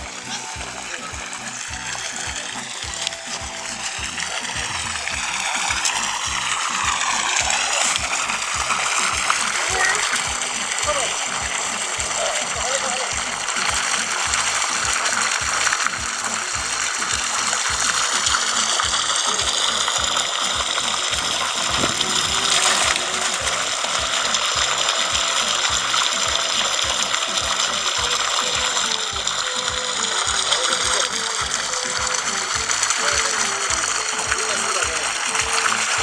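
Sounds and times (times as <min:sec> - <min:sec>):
fish splashing into water: 0:00.0 - 0:36.0
music with steady beat: 0:00.0 - 0:36.0
river water rushing: 0:00.0 - 0:36.0.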